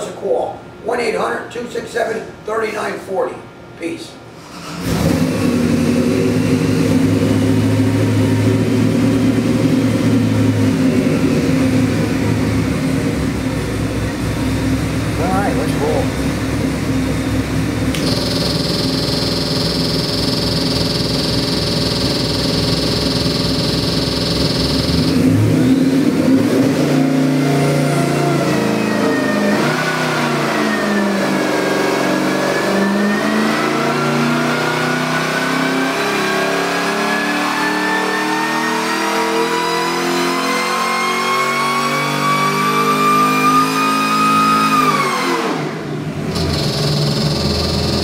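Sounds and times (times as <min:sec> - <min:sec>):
supercharged engine revving: 0:04.4 - 0:48.0
supercharger whine: 0:04.5 - 0:48.0.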